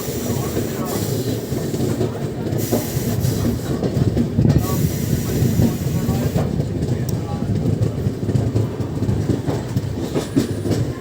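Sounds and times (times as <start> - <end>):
train coaches rumbling on rails: 0.0 - 11.0.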